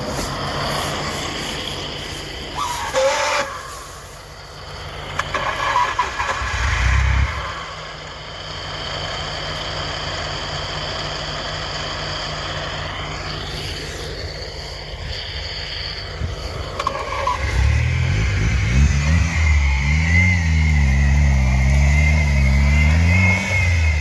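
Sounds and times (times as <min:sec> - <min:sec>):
car engine running: 0:00.0 - 0:24.0
high whine: 0:00.0 - 0:24.0
low engine burst: 0:00.0 - 0:24.0.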